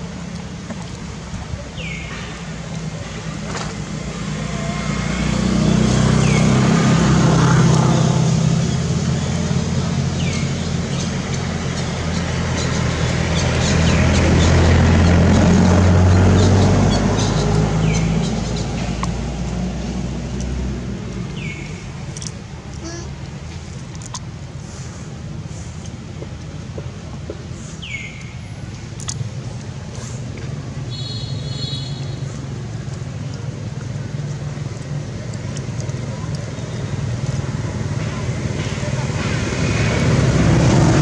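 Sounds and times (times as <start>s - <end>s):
low outdoor rumble: 0.0s - 41.0s
passing motor vehicle engine hum: 0.0s - 41.0s.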